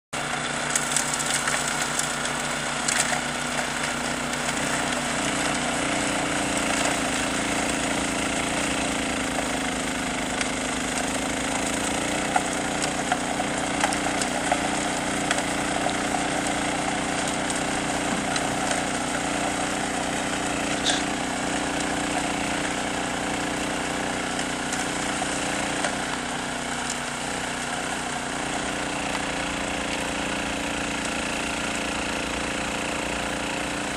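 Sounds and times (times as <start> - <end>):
snowblower engine running: 0.1 - 33.9.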